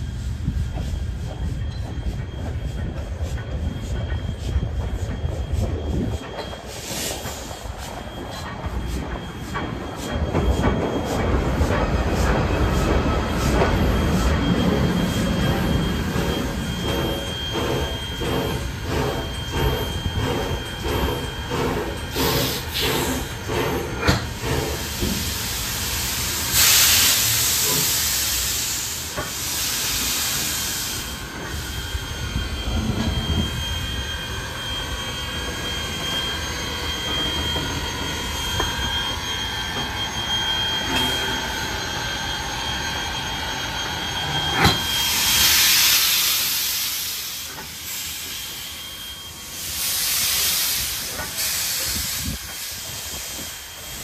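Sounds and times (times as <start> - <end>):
train rumble: 0.0 - 54.0
steam locomotive hissing bursts: 3.8 - 54.0.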